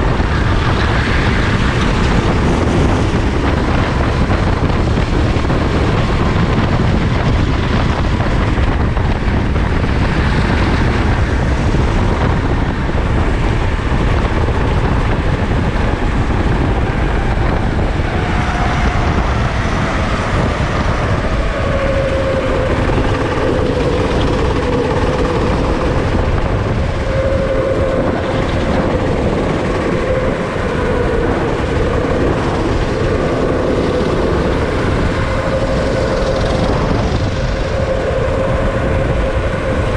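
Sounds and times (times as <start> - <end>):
go-kart engine racing: 0.0 - 39.9
road and wind noise: 0.0 - 39.9.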